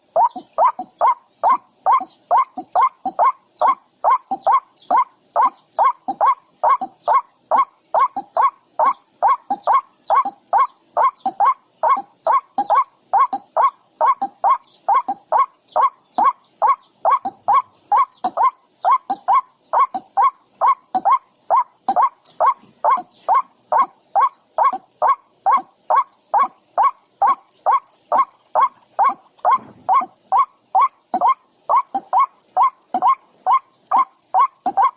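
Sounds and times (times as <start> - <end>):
bird calling: 0.0 - 34.9.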